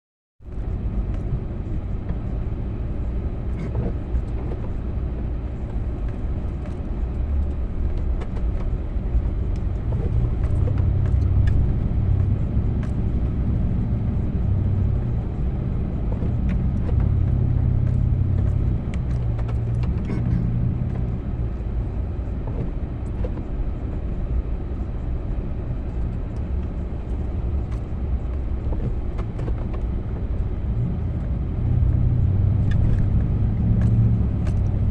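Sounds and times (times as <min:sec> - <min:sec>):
vehicle engine rumbling: 0:00.4 - 0:34.9.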